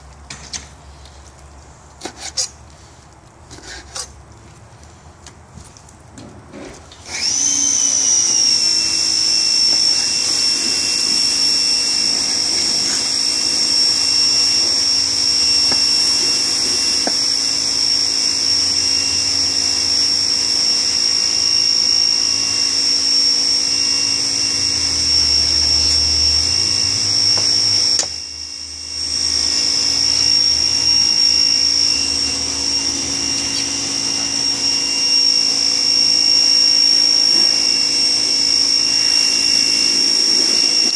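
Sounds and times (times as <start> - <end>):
machine motor whining: 6.9 - 40.9.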